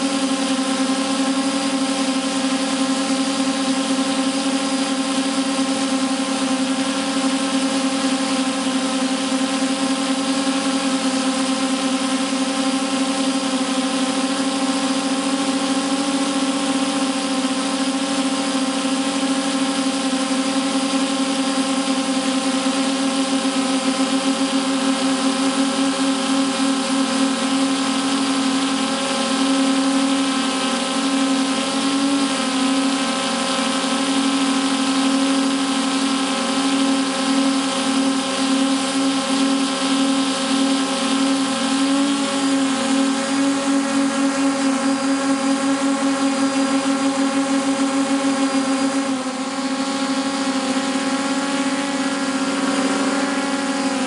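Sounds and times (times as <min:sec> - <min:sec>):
drone motors pulsing hum: 0:00.0 - 0:54.0.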